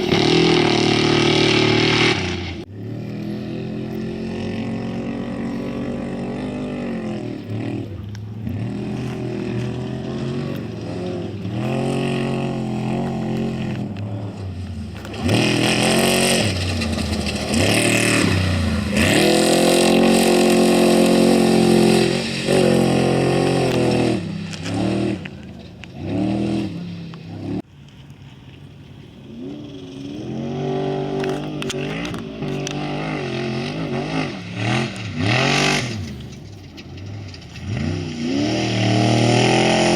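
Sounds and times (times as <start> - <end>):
off-road vehicle engines revving: 0.0 - 39.9.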